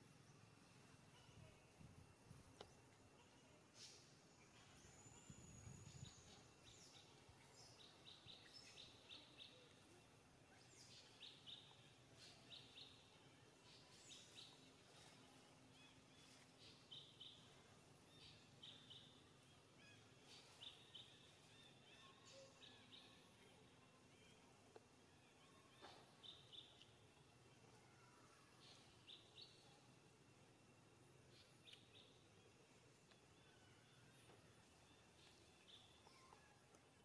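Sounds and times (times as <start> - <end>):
faint birdsong chirps: 0.0 - 37.0.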